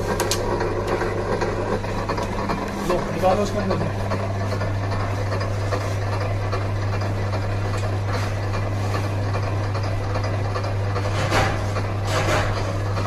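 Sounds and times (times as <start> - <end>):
electric motor humming: 0.0 - 11.0
light mechanical machine noise: 0.0 - 13.0.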